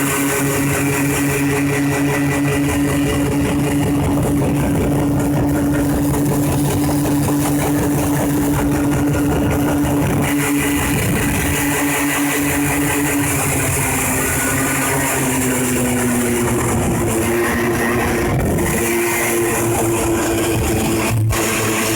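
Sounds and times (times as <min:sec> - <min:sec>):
two-stroke engine idling: 0:00.0 - 0:21.9.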